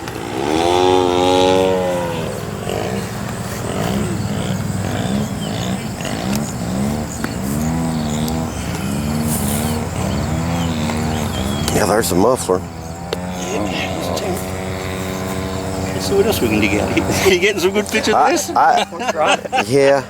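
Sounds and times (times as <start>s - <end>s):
model airplane engines droning: 0.0s - 20.0s.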